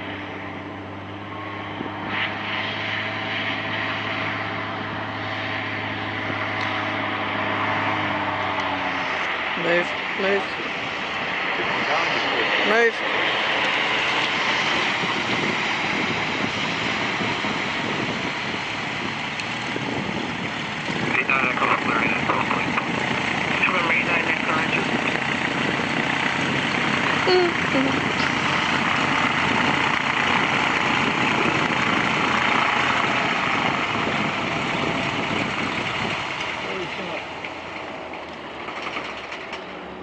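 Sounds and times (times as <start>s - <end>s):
floatplane engine and propeller: 0.0s - 40.0s
wind: 0.0s - 40.0s.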